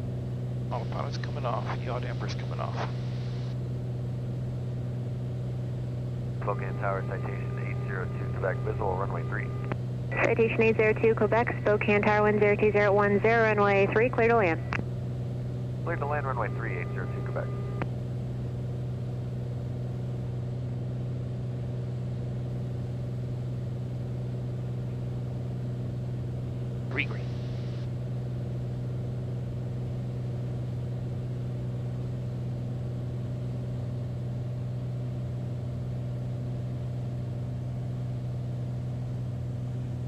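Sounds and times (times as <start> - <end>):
propeller plane engine droning: 0.0 - 40.0.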